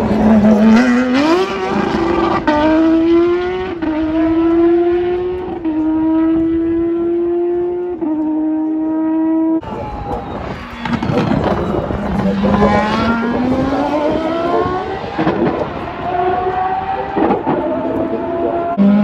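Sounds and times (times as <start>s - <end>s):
racing car engine accelerating: 0.0s - 9.7s, 10.8s - 19.0s.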